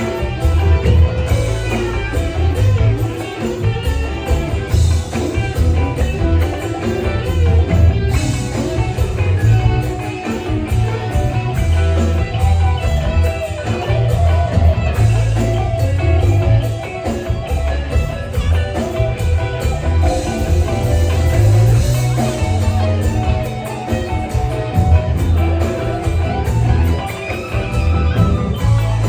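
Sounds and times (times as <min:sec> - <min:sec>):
heavy bass: 0:00.0 - 0:16.8, 0:17.4 - 0:29.0
drum kit: 0:00.0 - 0:29.0
electric guitar: 0:00.0 - 0:29.0
rock band playing: 0:00.0 - 0:29.0.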